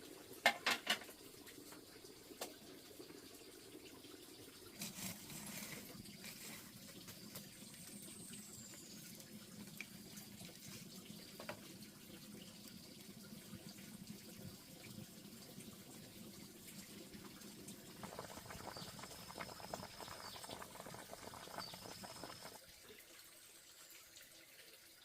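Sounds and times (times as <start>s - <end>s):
faint running water: 0.0s - 25.0s.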